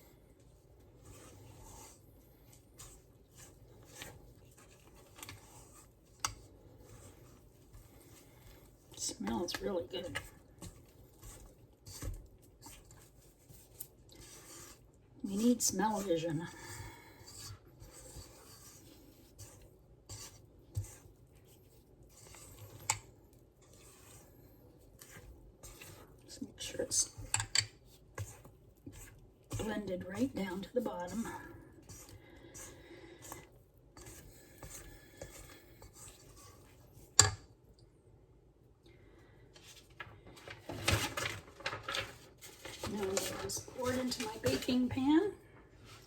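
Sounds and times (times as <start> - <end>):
spatula scraping batter in bowl: 0.0 - 37.6, 40.6 - 46.0.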